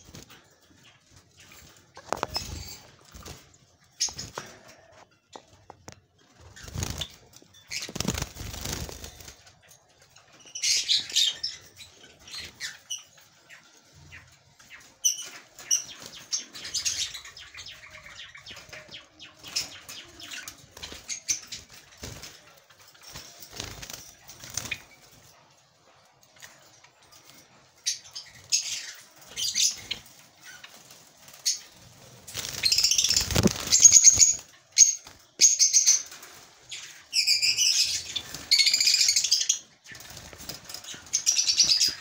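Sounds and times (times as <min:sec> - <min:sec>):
birds fluttering wings in a cage: 0:00.0 - 0:42.0.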